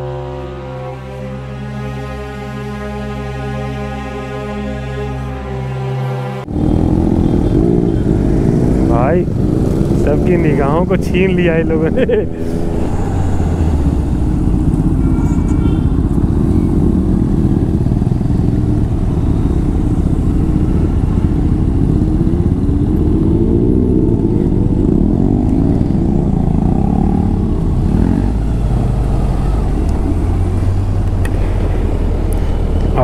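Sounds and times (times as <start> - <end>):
low rumble of motorbikes: 0.0 - 2.4, 6.1 - 33.0
motorcycle engine revving: 6.4 - 33.0.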